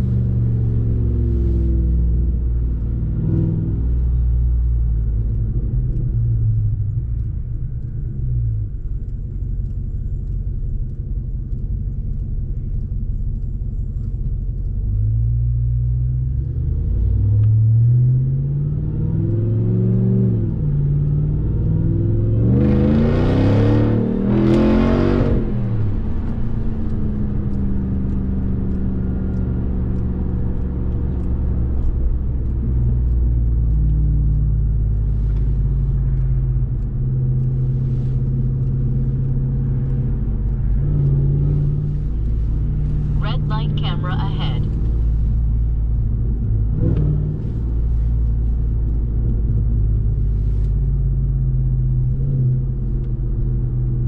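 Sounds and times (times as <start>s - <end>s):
truck engine accelerating: 0.0s - 54.0s.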